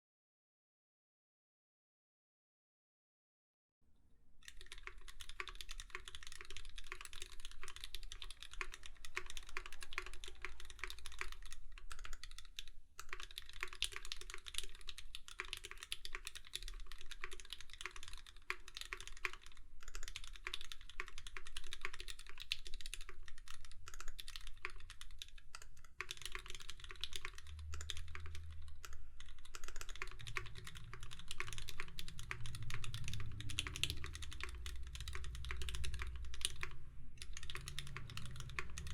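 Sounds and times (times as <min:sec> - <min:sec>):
mechanical keyboard typing: 0:04.4 - 0:38.9.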